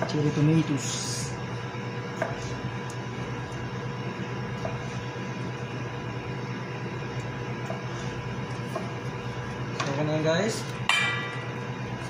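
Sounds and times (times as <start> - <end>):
kitchen machine hum and hiss: 0.0 - 12.0.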